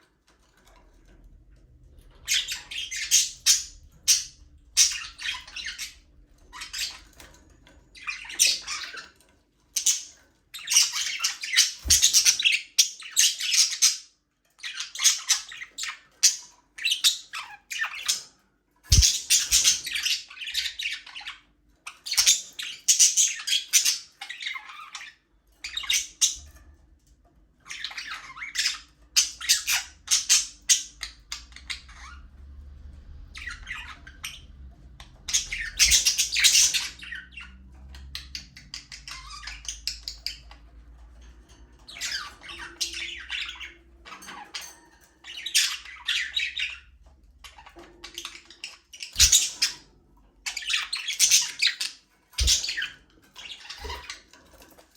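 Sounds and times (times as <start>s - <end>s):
budgerigars chirping and squawking: 0.2s - 54.9s.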